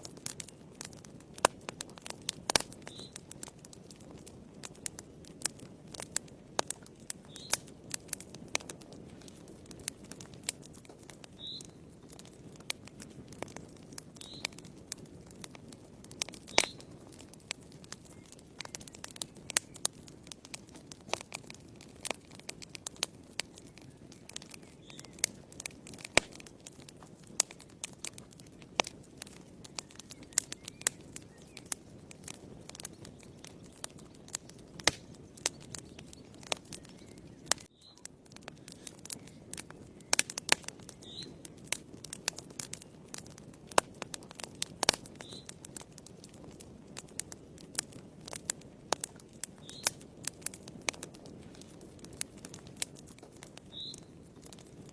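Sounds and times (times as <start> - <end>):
fire popping and snapping: 0.0 - 54.9
low rush of flames: 0.0 - 54.9
wood fire crackling: 0.0 - 54.9.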